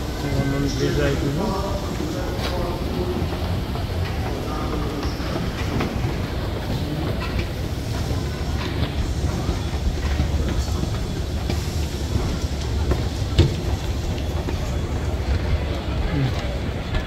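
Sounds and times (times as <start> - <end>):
train rumbling on rails: 0.0 - 17.0
wheels clicking on track: 0.0 - 17.0.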